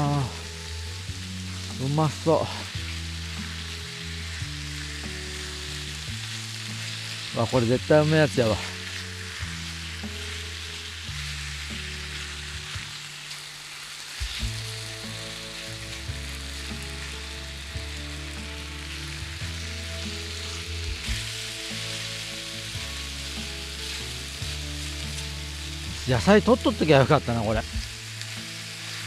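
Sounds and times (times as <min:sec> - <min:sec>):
chicken sizzling in a pan: 0:00.0 - 0:29.0.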